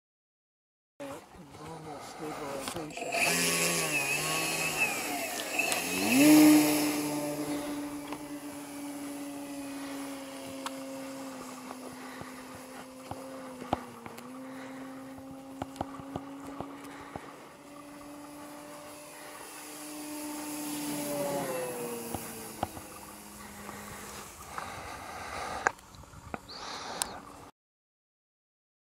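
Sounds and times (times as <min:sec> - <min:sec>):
model airplane engine and propeller: 0:01.0 - 0:27.5.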